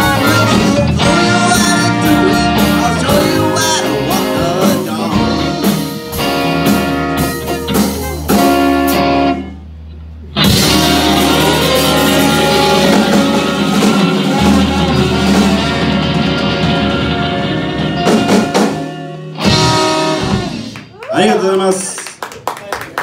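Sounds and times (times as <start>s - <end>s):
live soul-funk band playing: 0.0s - 20.9s.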